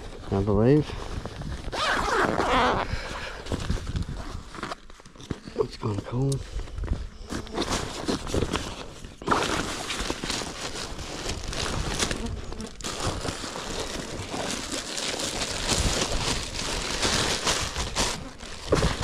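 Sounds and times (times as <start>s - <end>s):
packaging and fabric rustling: 0.0s - 6.3s, 7.3s - 19.0s.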